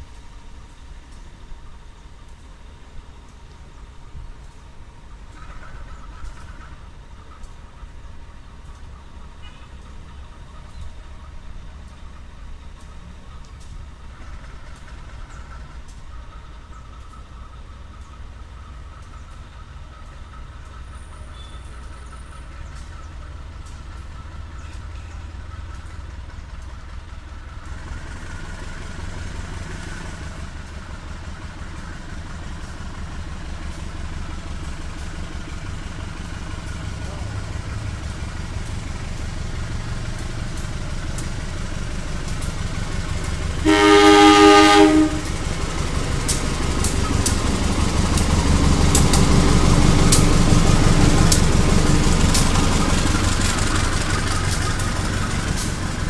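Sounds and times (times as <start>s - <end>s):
diesel locomotive engine rumble: 0.0s - 56.0s
rail noise: 0.0s - 56.0s.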